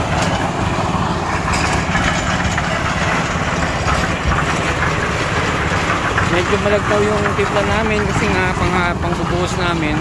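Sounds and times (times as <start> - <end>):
concrete mixer running: 0.0 - 10.0.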